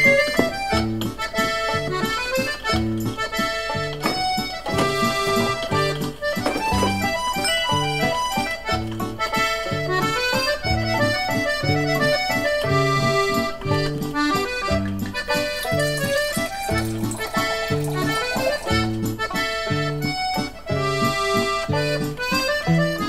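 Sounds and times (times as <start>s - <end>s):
jaunty accordion music: 0.0s - 23.0s.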